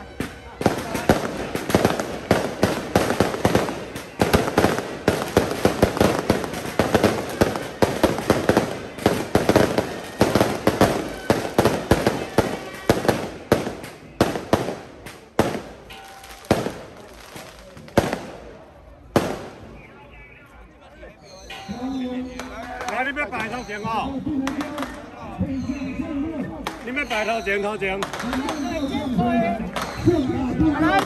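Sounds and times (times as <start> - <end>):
firecrackers crackling: 0.0 - 20.2, 22.4 - 25.3, 26.5 - 31.0.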